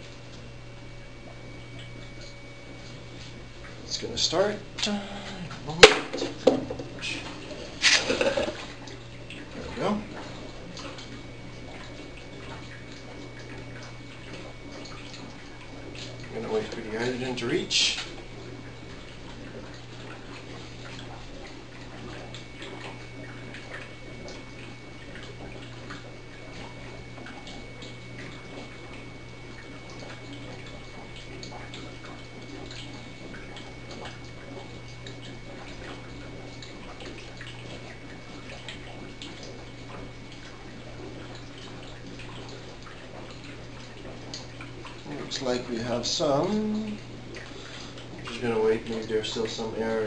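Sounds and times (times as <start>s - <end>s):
liquid bubbling and fizzing: 0.0s - 50.0s
low electrical hum: 0.0s - 50.0s.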